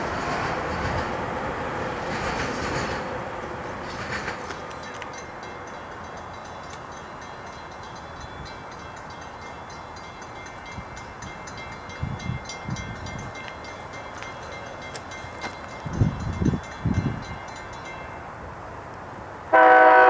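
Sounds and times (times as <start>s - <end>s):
distant electric train rumbling: 0.0s - 20.0s.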